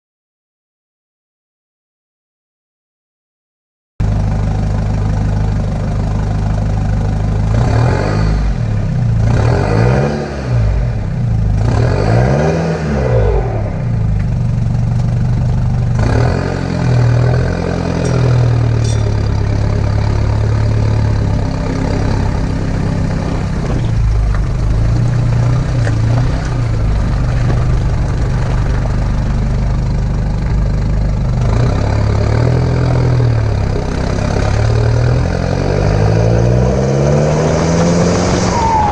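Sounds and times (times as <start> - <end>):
car engine idling and revving: 4.0 - 38.9.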